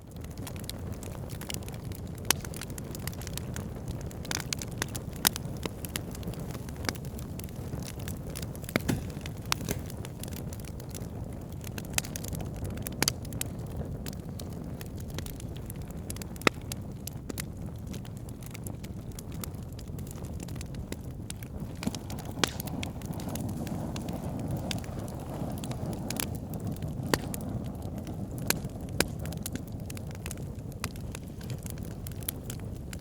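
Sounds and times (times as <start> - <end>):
fire popping: 0.0 - 33.0
wood fire crackling: 0.0 - 33.0.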